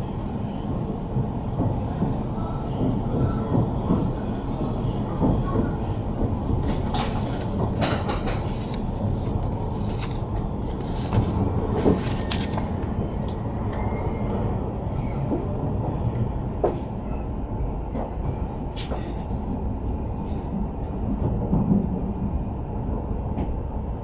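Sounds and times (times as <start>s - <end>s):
train cabin rumble: 0.0s - 24.0s.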